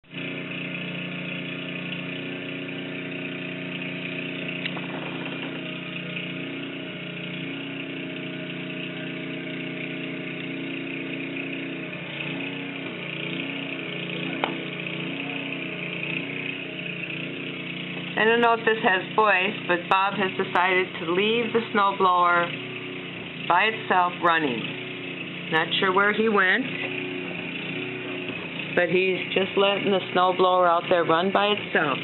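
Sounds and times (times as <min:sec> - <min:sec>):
snowblower engine running: 0:00.0 - 0:32.0.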